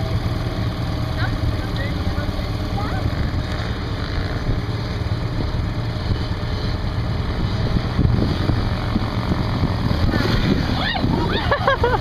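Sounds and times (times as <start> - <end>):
distant quad engines rumbling: 0.0 - 12.0.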